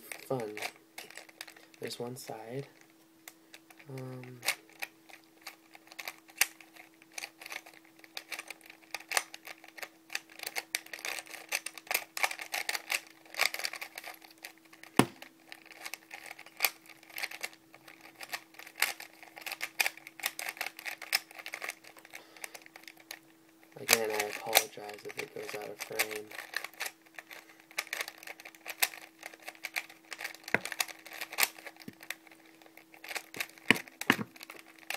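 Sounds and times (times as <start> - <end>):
puzzle cube plastic clicks: 0.1 - 1.8, 2.8 - 23.2, 23.8 - 34.9.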